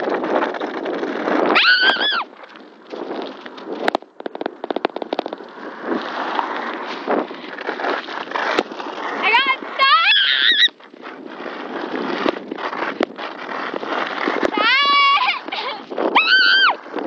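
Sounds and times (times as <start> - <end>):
road rumble: 0.0 - 17.0
wind on microphone: 0.0 - 17.0.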